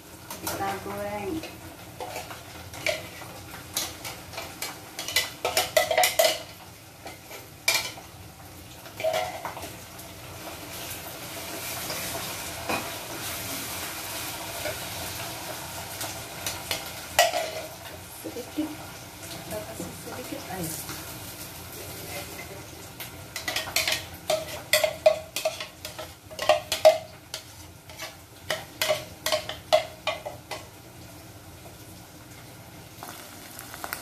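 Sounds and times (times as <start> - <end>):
chili paste sizzling in hot oil: 0.0 - 34.0.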